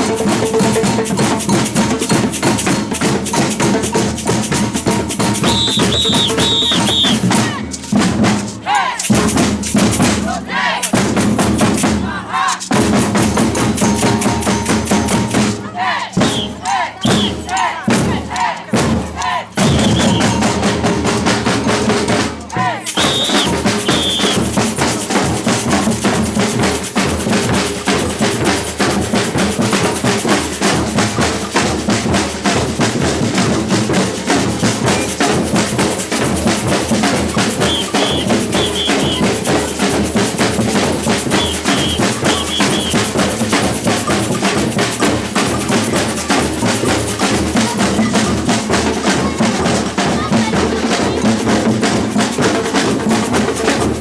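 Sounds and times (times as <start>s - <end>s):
runs of high notes: 0.0s - 26.6s, 34.1s - 52.0s
samba percussion ensemble: 0.0s - 54.0s.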